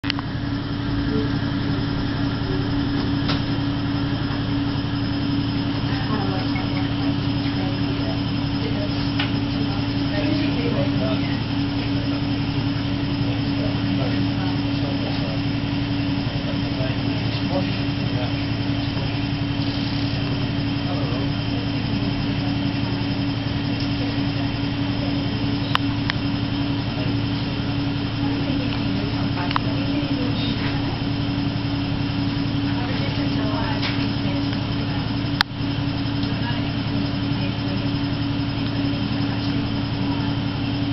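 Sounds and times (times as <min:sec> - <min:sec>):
medical equipment hum: 0:00.0 - 0:40.9.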